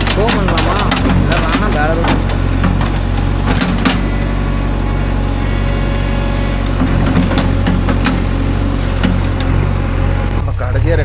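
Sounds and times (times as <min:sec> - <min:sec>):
diesel engine running: 0:00.0 - 0:10.6.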